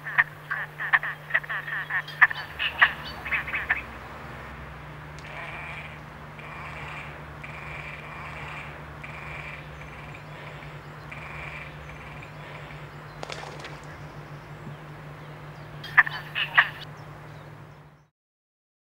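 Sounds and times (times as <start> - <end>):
grebes croaking calls: 0.0 - 17.5.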